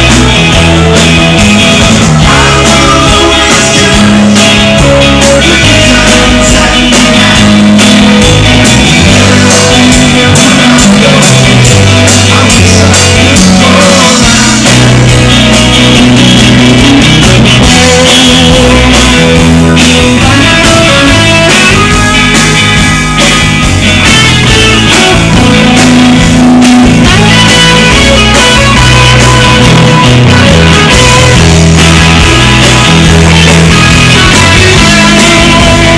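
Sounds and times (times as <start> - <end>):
bass guitar: 0.0 - 35.9
drum kit: 0.0 - 35.9
electric guitars: 0.0 - 35.9.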